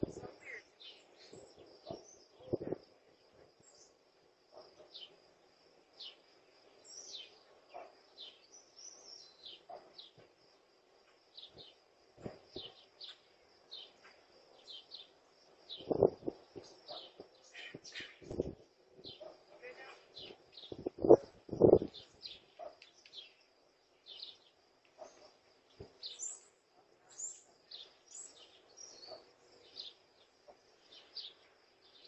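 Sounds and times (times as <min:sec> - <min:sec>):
birds chirping: 0:00.0 - 0:05.3, 0:06.0 - 0:10.3, 0:11.3 - 0:32.0.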